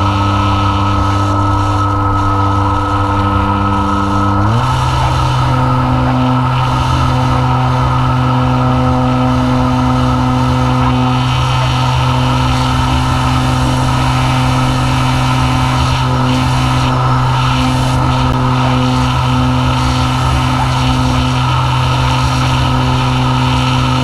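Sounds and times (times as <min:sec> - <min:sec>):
model plane motor humming and whining: 0:00.0 - 0:24.0
rushing air: 0:00.0 - 0:24.0.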